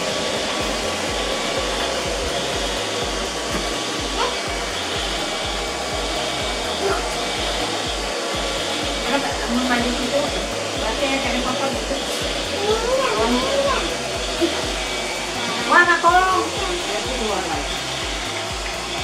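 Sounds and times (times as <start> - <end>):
music with bass beat: 0.0 - 19.0
robotic vacuum cleaner whirring: 0.0 - 19.0.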